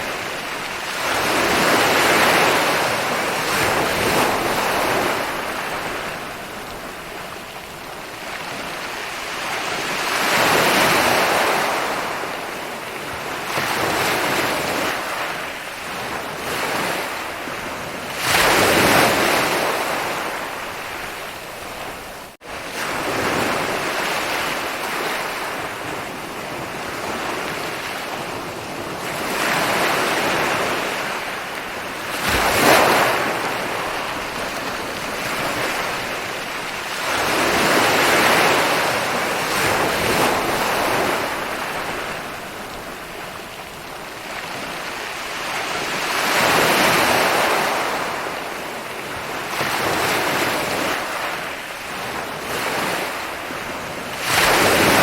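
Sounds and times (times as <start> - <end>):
ocean waves washing up a beach: 0.0 - 55.0
waves breaking: 0.0 - 55.0.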